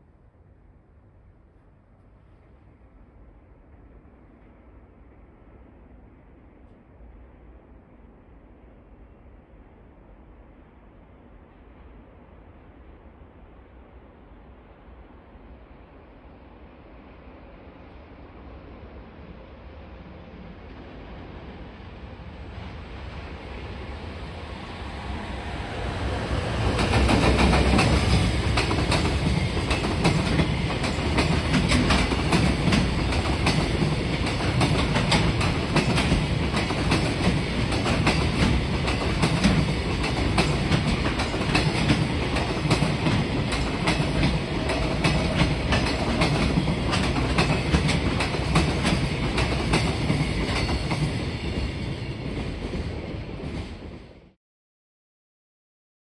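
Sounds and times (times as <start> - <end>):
freight train passing: 2.2 - 54.4.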